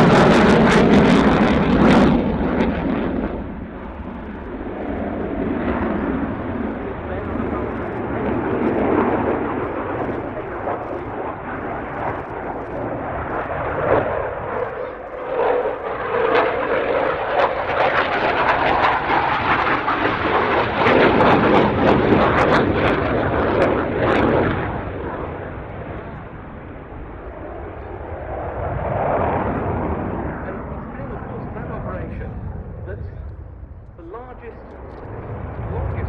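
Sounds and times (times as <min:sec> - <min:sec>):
jet engine roar with crackles: 0:00.0 - 0:36.0.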